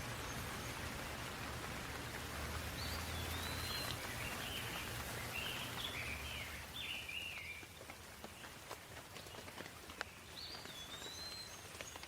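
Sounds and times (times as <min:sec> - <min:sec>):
light rain hiss: 0:00.0 - 0:12.0
raindrop taps: 0:00.0 - 0:12.0.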